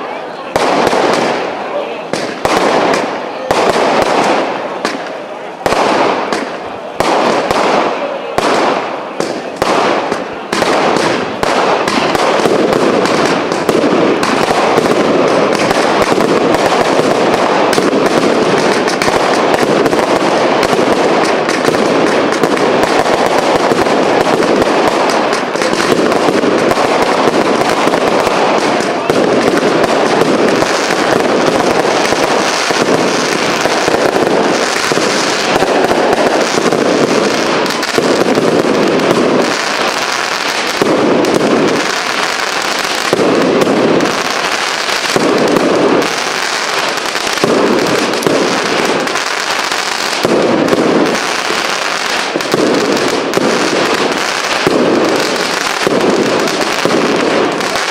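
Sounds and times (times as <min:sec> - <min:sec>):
fireworks bangs: 0:00.0 - 0:57.9
fireworks barrage crackling: 0:00.0 - 0:57.9.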